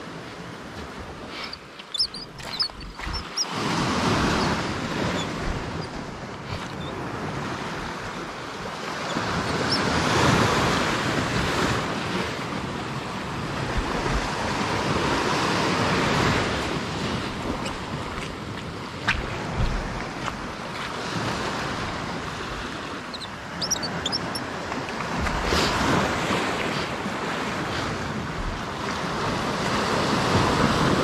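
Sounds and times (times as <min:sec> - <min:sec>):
sea surf on rocky shore: 0:00.0 - 0:31.0
wind buffeting microphone: 0:00.0 - 0:31.0.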